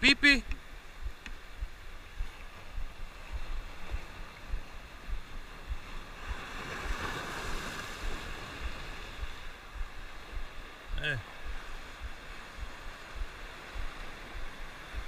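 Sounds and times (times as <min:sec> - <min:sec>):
surf washing over rocks: 0:00.0 - 0:15.0
wind buffeting microphone: 0:00.9 - 0:15.0.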